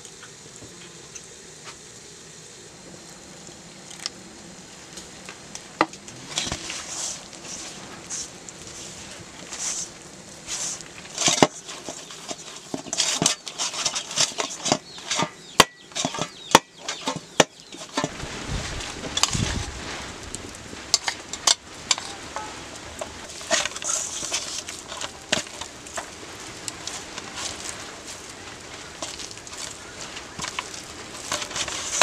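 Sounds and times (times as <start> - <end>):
rustle of food mix: 0.0 - 32.0.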